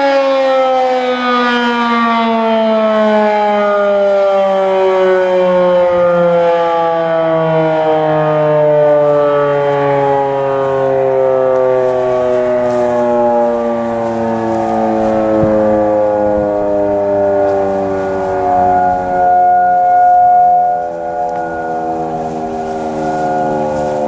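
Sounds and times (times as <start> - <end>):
outdoor warning sirens wailing: 0.0 - 24.0.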